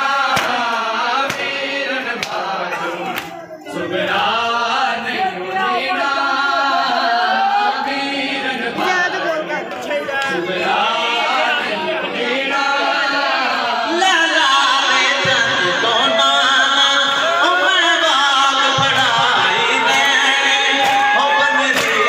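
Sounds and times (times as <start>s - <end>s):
man chanting a lament: 0.0s - 22.0s.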